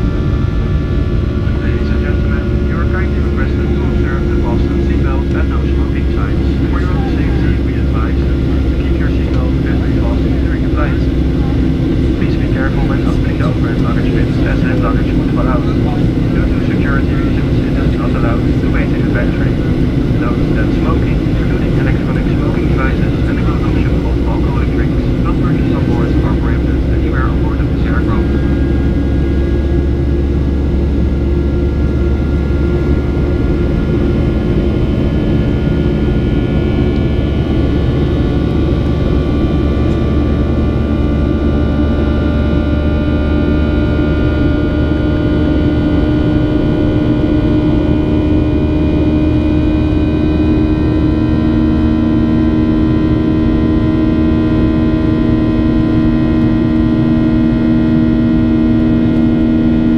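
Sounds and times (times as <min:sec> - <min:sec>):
humming and whining tones: 0:00.0 - 0:59.9
jet engine noise: 0:00.0 - 0:59.9.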